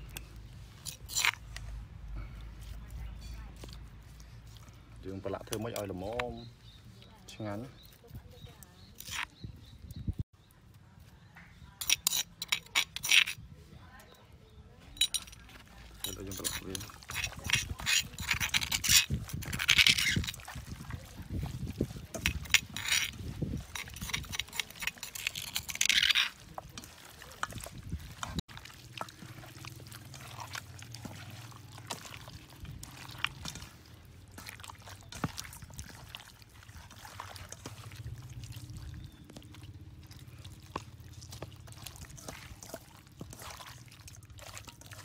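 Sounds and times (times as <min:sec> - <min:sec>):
hands kneading wet meat: 0:00.0 - 0:11.7, 0:15.4 - 0:45.0.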